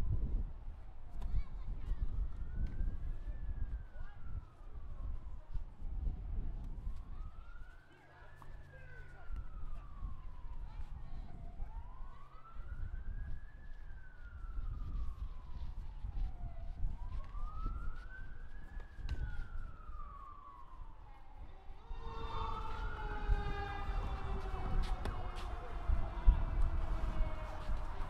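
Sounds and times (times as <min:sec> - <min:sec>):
falling siren tone: 0:00.0 - 0:28.0
siren wailing: 0:02.1 - 0:28.0.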